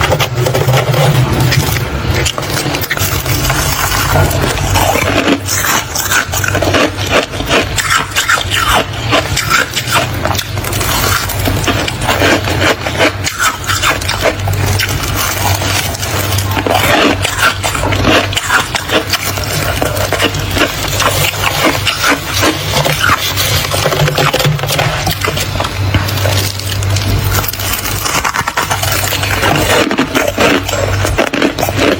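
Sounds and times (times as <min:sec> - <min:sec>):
freezer frost crunching: 0:00.0 - 0:31.9
steady low hum: 0:00.0 - 0:31.9.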